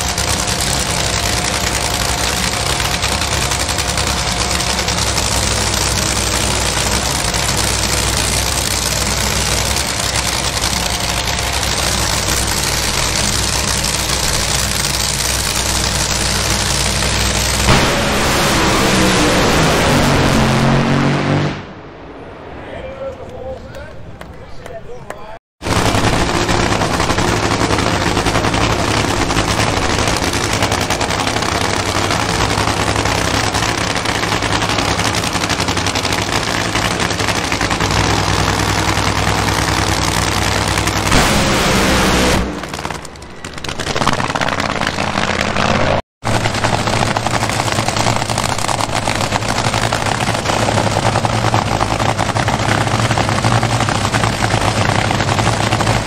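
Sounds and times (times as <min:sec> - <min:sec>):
drag racing engine crackling: 0:00.0 - 0:21.4, 0:22.9 - 0:56.0.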